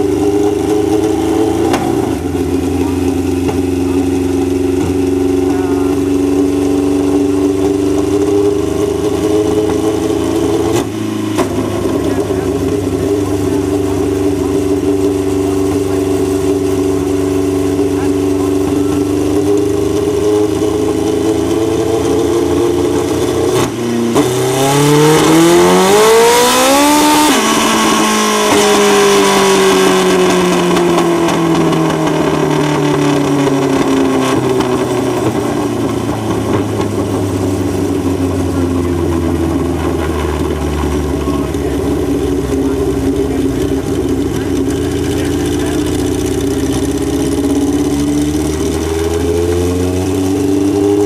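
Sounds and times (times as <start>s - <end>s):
motorcycle engine revving on dyno: 0.0s - 51.0s.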